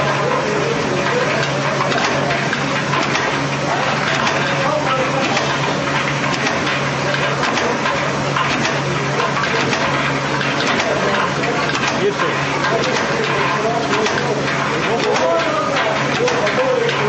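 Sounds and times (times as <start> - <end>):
machine humming and hissing: 0.0 - 17.0.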